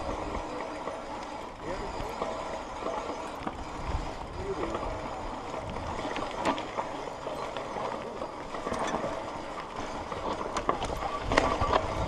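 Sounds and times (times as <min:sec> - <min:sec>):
bike rattling and clicking: 0:00.0 - 0:12.0
bike tyres crunching over gravel: 0:00.0 - 0:12.0.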